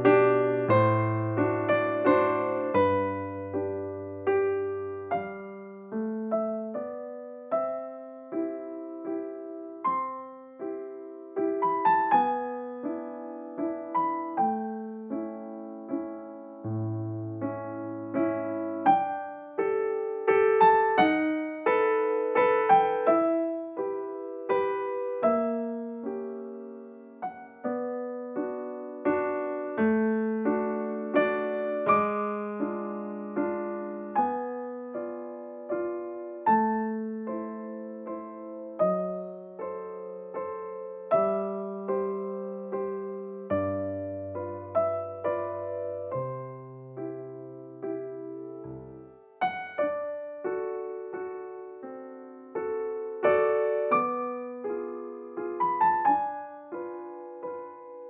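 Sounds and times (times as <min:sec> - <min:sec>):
gentle piano melody: 0:00.0 - 0:58.0.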